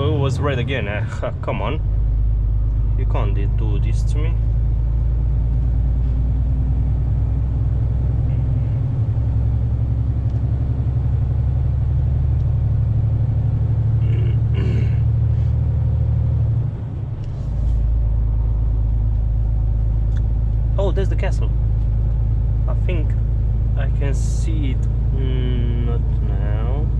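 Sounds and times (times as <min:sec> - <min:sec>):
truck diesel engine rumbling: 0:00.0 - 0:26.9.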